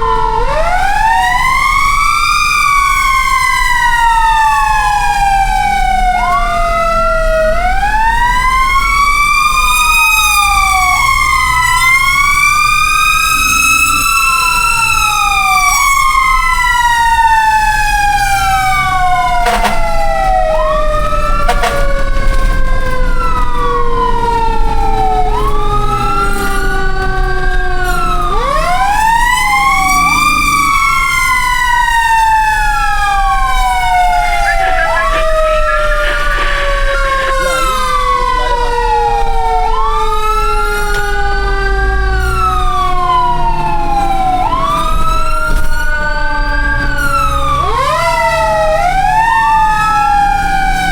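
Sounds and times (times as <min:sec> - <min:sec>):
fire truck sirens wailing: 0:00.0 - 0:50.9.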